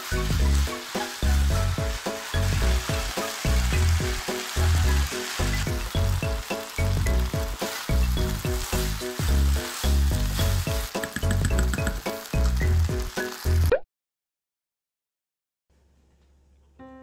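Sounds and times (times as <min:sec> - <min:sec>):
food sizzling in a frying pan: 0:00.0 - 0:13.7
background music with bouncy beat: 0:00.0 - 0:13.8.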